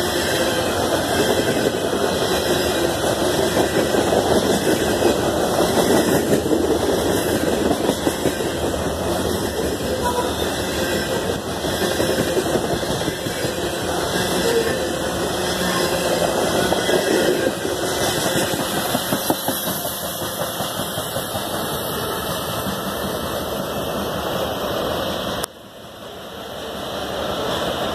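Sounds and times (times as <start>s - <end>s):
freight train wheels rumbling on rails: 0.0s - 27.9s.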